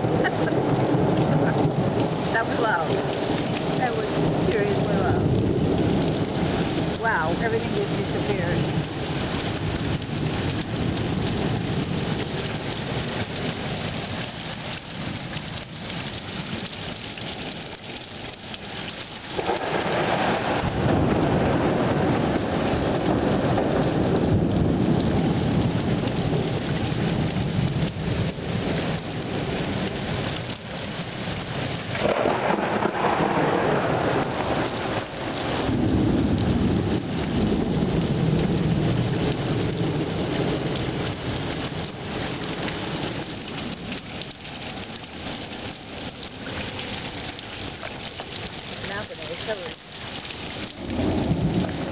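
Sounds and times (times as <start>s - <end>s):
thunder rumbling: 0.0s - 14.0s, 18.9s - 44.2s, 44.8s - 51.9s
heavy rain pouring: 0.0s - 51.9s.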